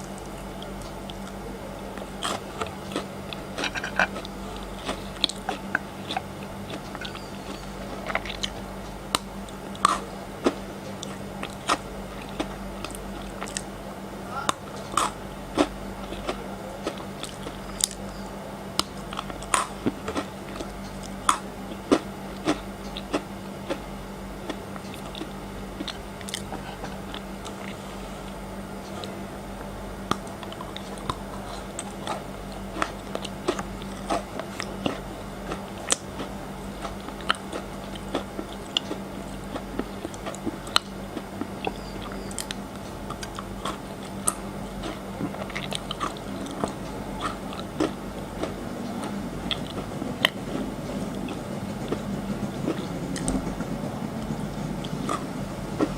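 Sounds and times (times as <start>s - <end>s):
chocolate crunching while chewing: 0.0s - 13.8s, 14.4s - 53.4s
steady low hum: 0.0s - 55.9s.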